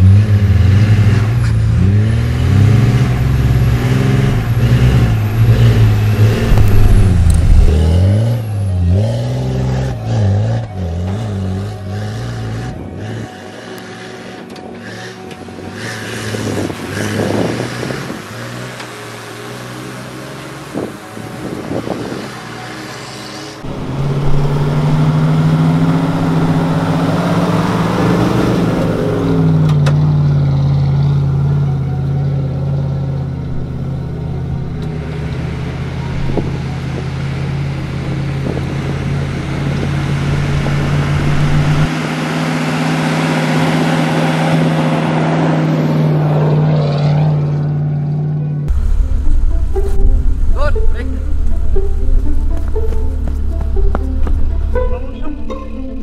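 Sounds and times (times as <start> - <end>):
vehicle engine running under load: 0.0 - 56.0.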